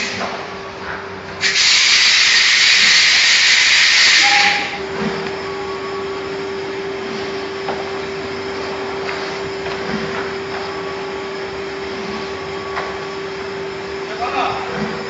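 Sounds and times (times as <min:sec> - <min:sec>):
machinery hum: 0:00.0 - 0:15.0
machinery rushing noise: 0:01.4 - 0:15.0.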